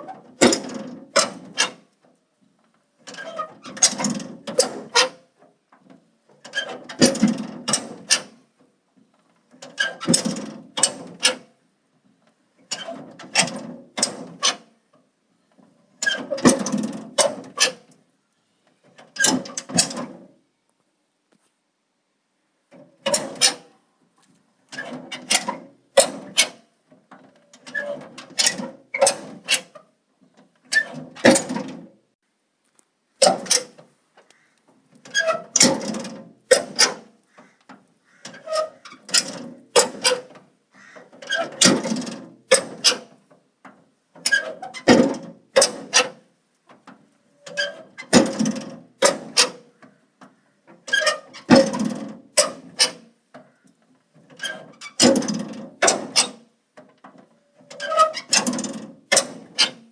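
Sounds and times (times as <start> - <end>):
metal door clicks and clanks: 0.0 - 1.9, 3.0 - 5.2, 5.8 - 8.4, 9.4 - 11.5, 12.6 - 14.7, 15.6 - 18.0, 18.8 - 20.3, 22.7 - 23.8, 24.7 - 31.9, 33.2 - 33.9, 34.9 - 53.5, 54.2 - 59.9.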